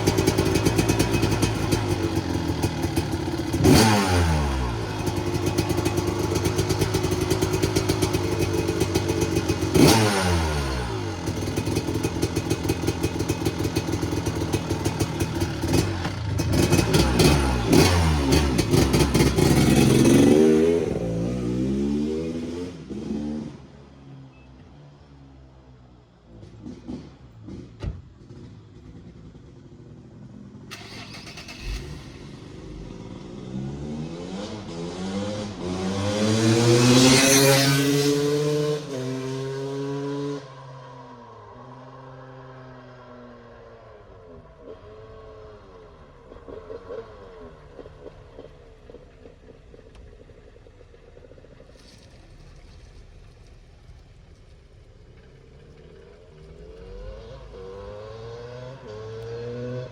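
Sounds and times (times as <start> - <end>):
dirt bike engine accelerating: 0.0 - 23.5, 26.6 - 40.5, 44.3 - 59.9.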